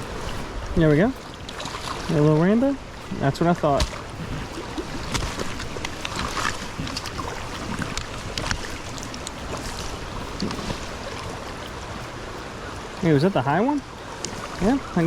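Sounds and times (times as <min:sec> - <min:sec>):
stream water rushing: 0:00.0 - 0:15.0
wind buffeting microphone: 0:00.0 - 0:15.0.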